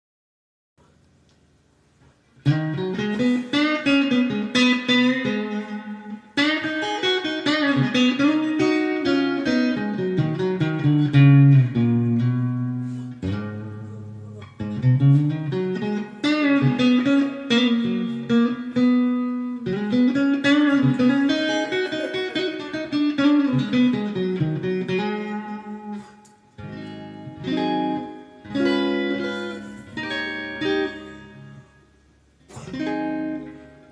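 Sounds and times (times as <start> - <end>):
electric guitar with bent notes: 2.4 - 33.9.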